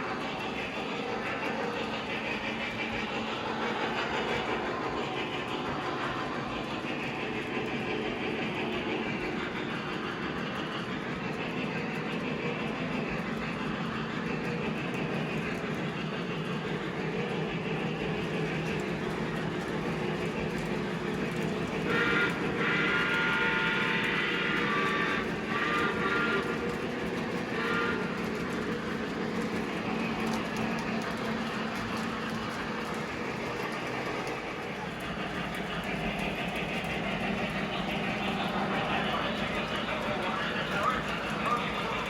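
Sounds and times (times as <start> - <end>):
model train rumbling on track: 0.0 - 42.0.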